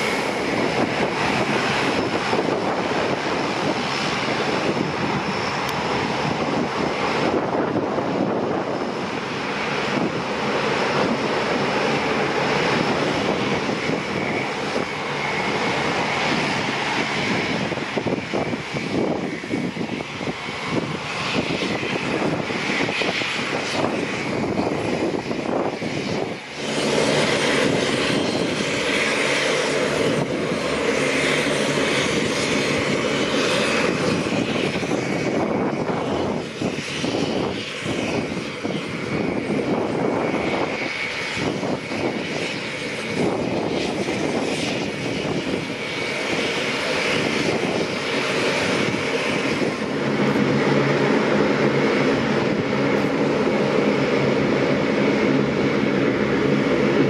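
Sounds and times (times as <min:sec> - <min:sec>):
turboprop aircraft drone: 0:00.0 - 0:57.0.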